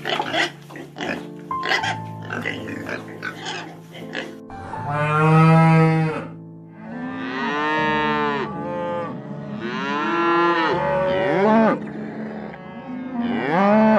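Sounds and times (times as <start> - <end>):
cows mooing: 0.0 - 13.9.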